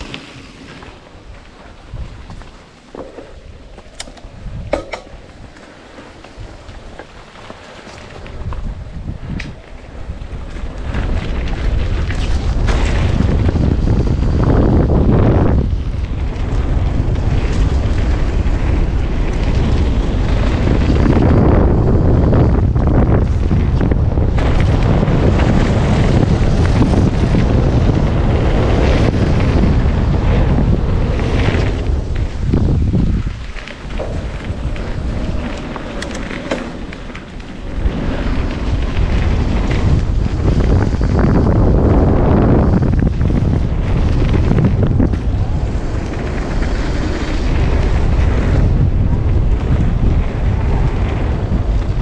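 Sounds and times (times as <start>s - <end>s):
bike rattling: 0.0s - 52.0s
bike tyres rumbling: 0.0s - 52.0s
wind buffeting microphone: 0.0s - 52.0s.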